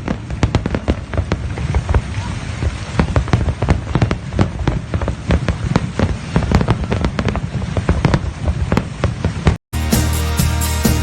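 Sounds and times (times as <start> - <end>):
fireworks cracking and popping: 0.0 - 9.6.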